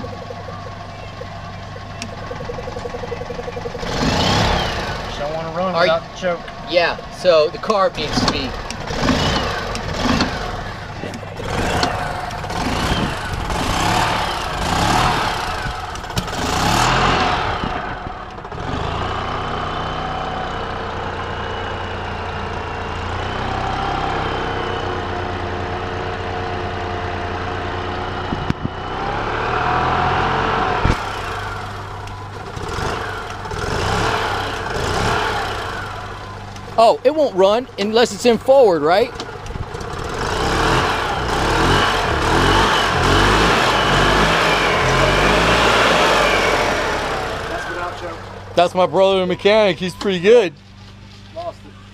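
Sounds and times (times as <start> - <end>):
golf cart engine revving and idling: 0.0 - 51.9.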